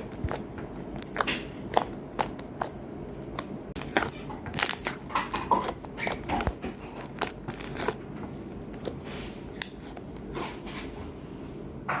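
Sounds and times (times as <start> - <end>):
slime being squished: 0.0 - 10.6.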